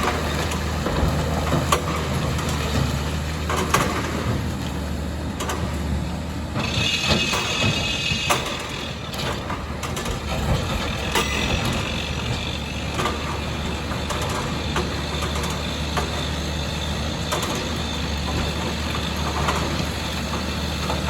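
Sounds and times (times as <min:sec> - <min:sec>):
excavator engine hum: 0:00.0 - 0:21.0.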